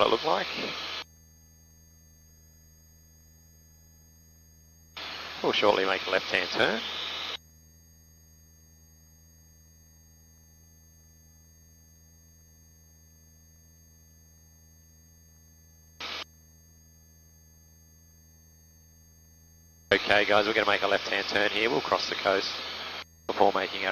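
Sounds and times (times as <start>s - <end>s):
intercom hum with faint tones: 0.0s - 23.9s.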